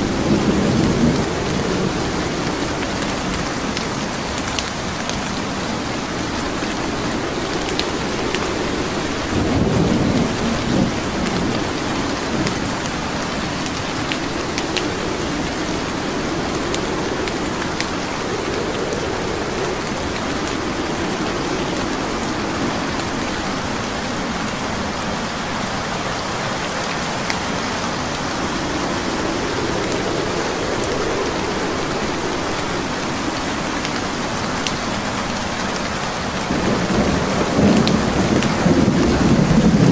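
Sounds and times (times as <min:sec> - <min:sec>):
wood fire crackling: 0:00.0 - 0:39.0
rolling thunder: 0:00.0 - 0:39.9
steady rain: 0:00.0 - 0:39.9.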